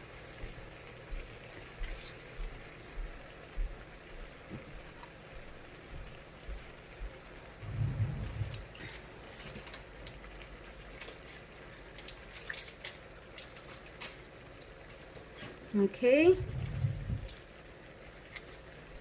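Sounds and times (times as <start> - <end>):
juice dripping: 0.0 - 3.8, 6.6 - 15.4, 16.2 - 19.0.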